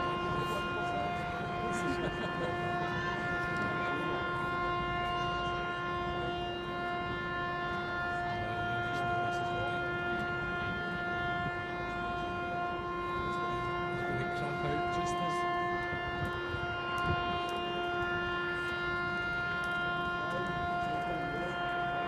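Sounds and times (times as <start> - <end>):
machinery whine: 0.0 - 22.0.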